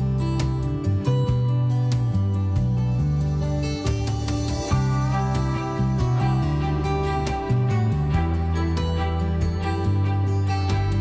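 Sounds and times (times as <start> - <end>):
gentle instrumental guitar music: 0.0 - 11.0.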